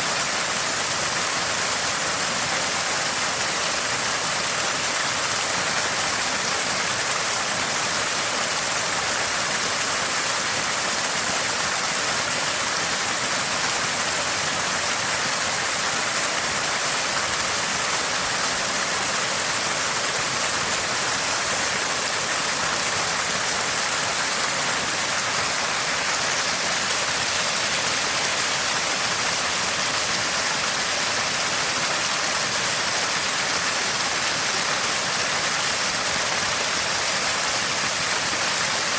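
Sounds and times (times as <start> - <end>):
water gushing from spring: 0.0 - 38.9.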